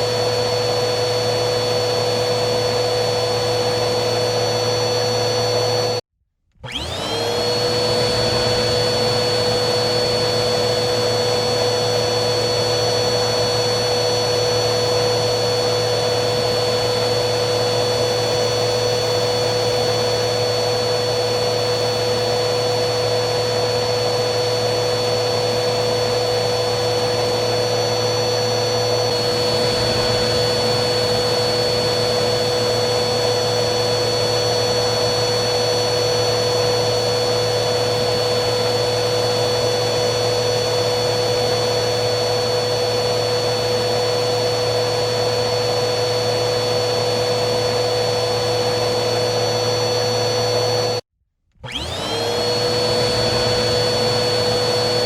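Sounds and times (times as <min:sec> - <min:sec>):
vacuum cleaner motor: 0:00.0 - 0:55.0.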